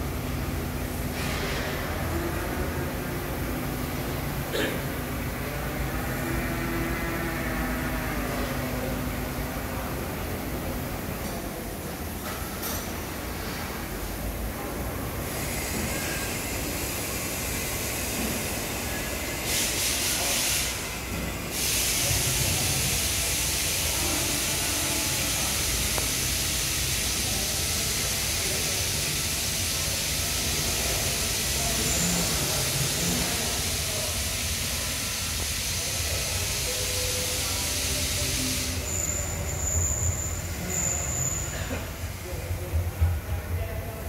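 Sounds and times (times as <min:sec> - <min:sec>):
steady hissing noise: 0:00.0 - 0:44.0.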